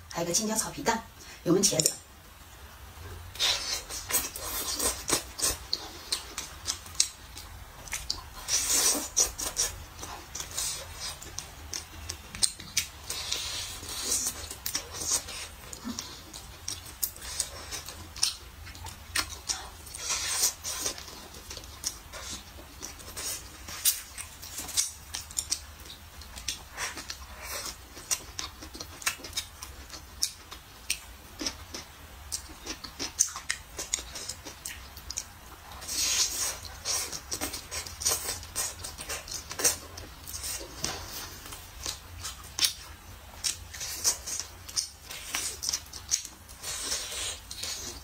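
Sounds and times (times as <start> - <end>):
person chewing food: 3.0 - 48.0.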